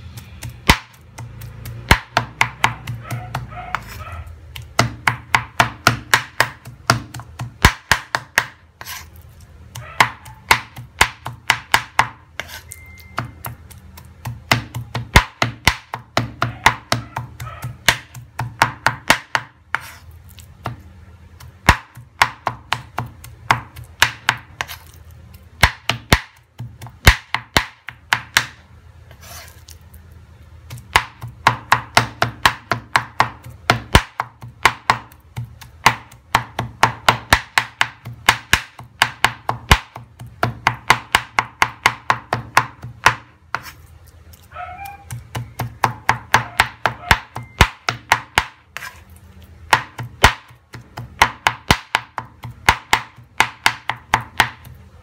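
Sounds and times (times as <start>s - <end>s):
cleaver chopping on wooden board: 0.2s - 4.0s, 4.6s - 9.0s, 9.8s - 12.6s, 13.2s - 20.0s, 21.6s - 24.9s, 25.6s - 28.6s, 30.7s - 43.8s, 45.1s - 49.0s, 49.7s - 54.8s.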